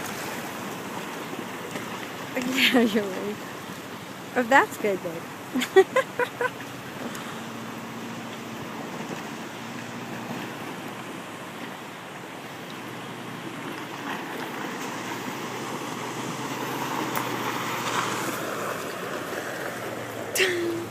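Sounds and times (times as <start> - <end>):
low engine hum: 0.0 - 20.9
water rushing and splashing: 0.0 - 20.9.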